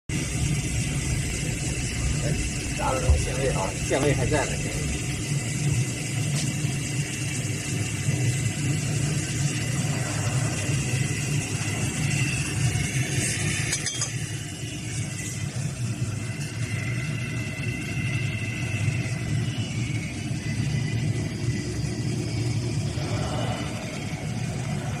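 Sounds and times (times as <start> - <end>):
faint high whine: 0.1 - 25.0
industrial machinery humming: 0.1 - 25.0.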